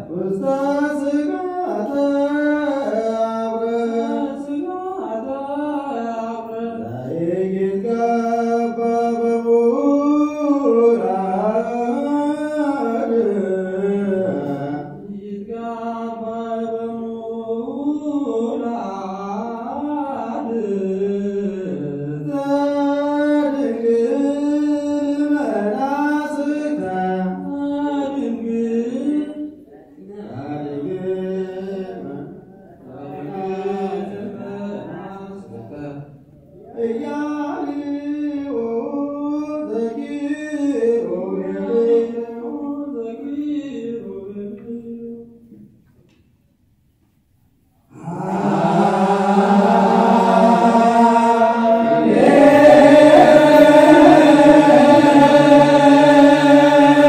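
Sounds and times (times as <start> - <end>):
liturgical chanting: 0.0 - 45.6, 47.9 - 57.0.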